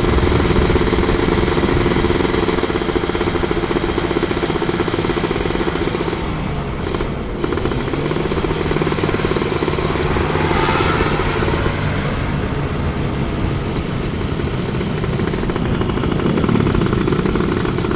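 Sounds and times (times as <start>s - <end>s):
two-stroke motorcycle engine running: 0.0s - 17.9s.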